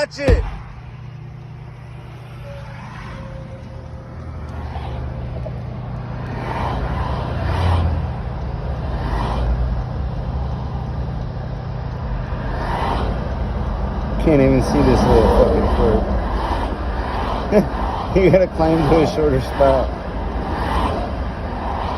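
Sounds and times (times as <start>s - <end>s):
car engine and road noise: 0.0s - 21.9s
passing traffic: 0.0s - 21.9s.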